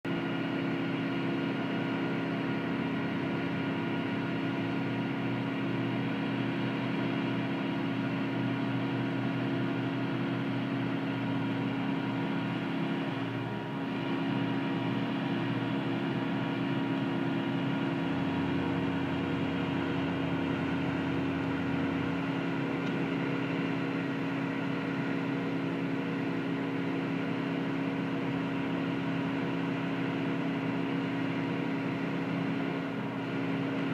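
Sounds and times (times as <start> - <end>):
heavy machinery engine drone: 0.1 - 33.9.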